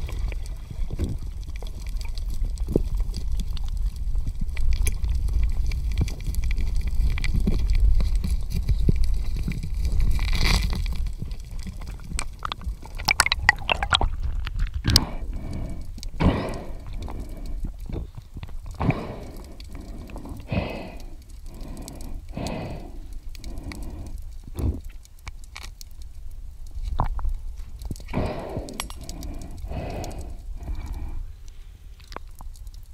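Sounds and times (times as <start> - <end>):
low underwater rumbling: 0.0 - 25.3, 25.9 - 32.9.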